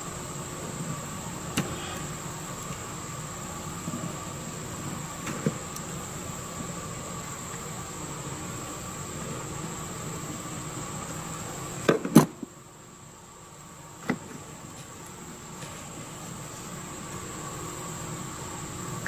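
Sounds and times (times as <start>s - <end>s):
steady high-pitched whine: 0.0s - 19.0s.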